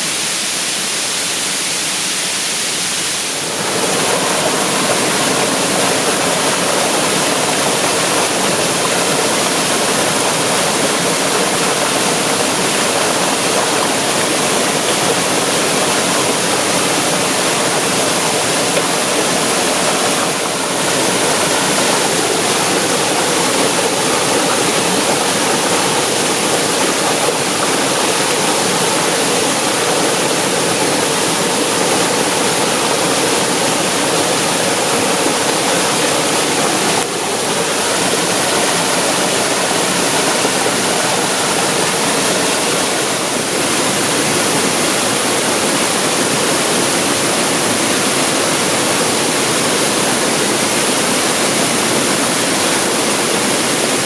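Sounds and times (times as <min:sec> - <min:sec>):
waterfall pouring: 0:03.0 - 0:54.0.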